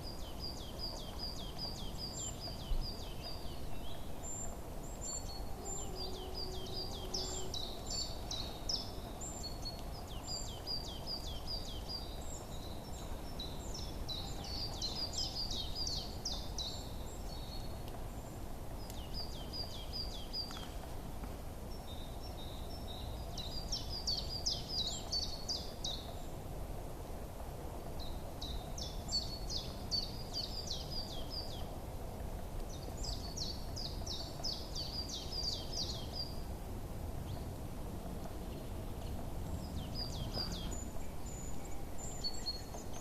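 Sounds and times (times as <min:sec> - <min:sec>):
low outdoor background hum: 0:00.0 - 0:43.0
small songbirds chirping: 0:00.0 - 0:43.0.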